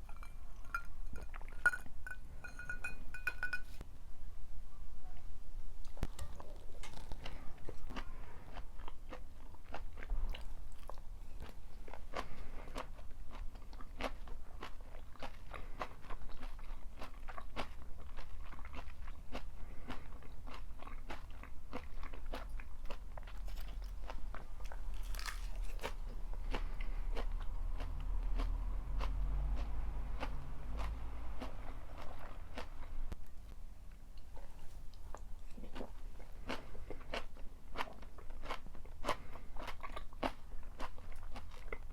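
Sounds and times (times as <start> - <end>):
crisp wet chewing crunches: 5.8 - 33.2, 34.2 - 41.9.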